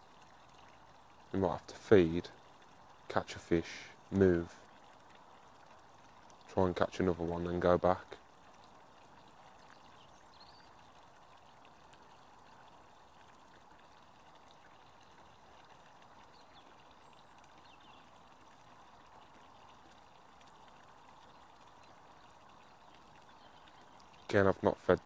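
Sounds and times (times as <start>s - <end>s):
faint background hiss: 0.0s - 25.0s.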